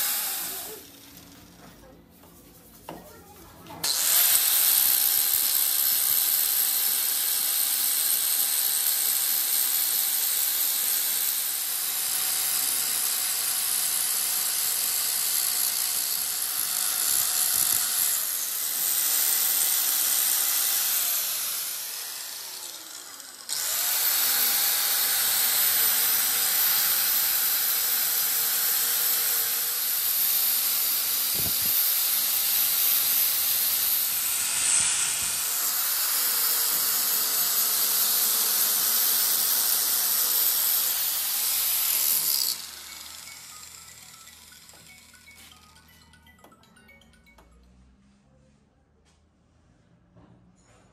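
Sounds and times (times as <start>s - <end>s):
angle grinder grinding metal: 0.0s - 1.6s, 3.8s - 45.8s.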